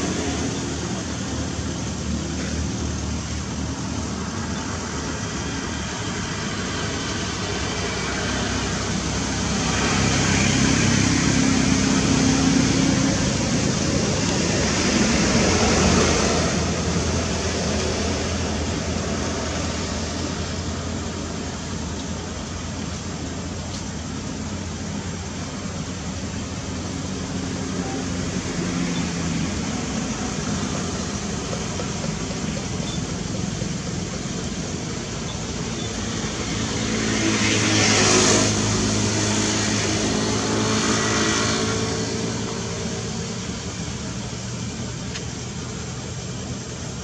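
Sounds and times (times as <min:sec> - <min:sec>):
vehicle passing on road: 0:00.0 - 0:47.0.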